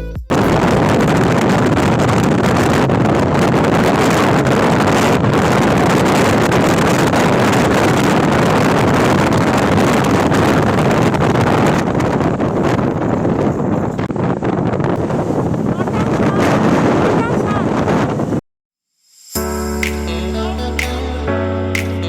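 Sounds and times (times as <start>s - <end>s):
wind rushing over microphone: 0.3s - 18.4s.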